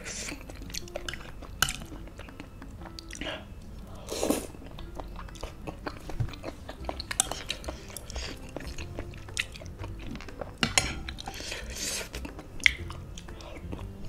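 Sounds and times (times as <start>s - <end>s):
wet chewing mouth sounds: 0.0s - 14.0s.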